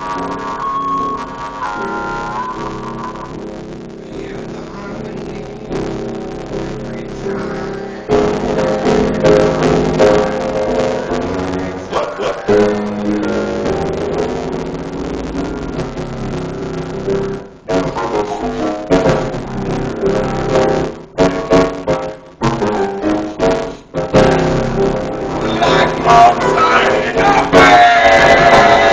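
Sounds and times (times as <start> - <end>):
live piano chords: 0.0 - 28.9.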